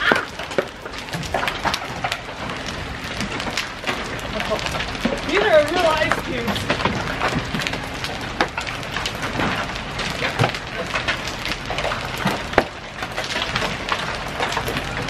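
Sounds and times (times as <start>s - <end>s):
hailstones tapping: 0.0s - 15.0s
steady rain: 0.0s - 15.0s.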